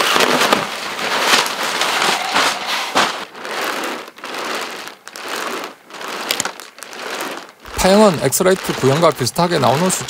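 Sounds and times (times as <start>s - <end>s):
nylon sleeping pad crinkling: 0.0s - 10.0s.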